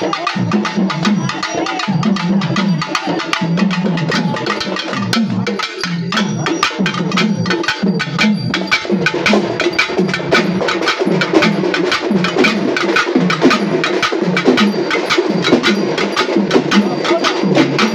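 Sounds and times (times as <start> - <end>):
drums played with sticks: 0.0 - 17.9.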